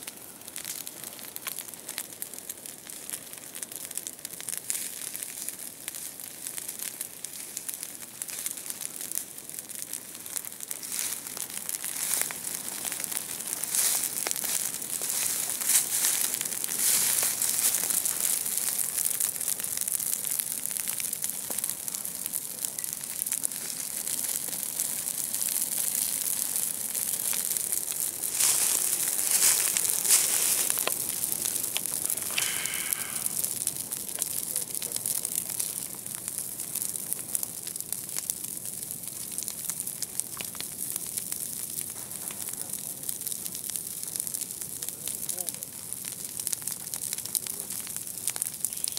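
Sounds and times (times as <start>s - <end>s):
ground fire crackling: 0.0s - 48.9s.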